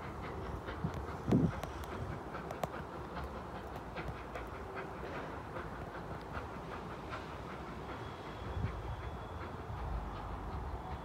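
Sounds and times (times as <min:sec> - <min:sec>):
distant steam locomotive rumble: 0:00.0 - 0:11.0.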